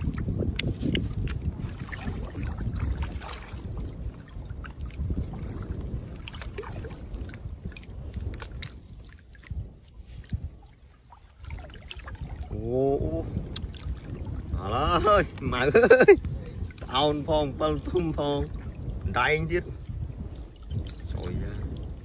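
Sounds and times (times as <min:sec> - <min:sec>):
water sloshing and trickling: 0:00.0 - 0:22.0.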